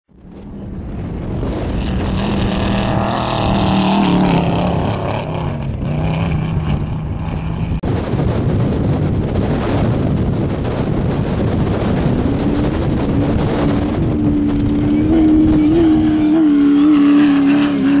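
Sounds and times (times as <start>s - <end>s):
wind on microphone: 0.1s - 18.0s
off-road vehicle engines racing: 0.2s - 8.3s, 10.6s - 18.0s
race buggy engine approaching: 0.2s - 8.6s, 10.6s - 18.0s.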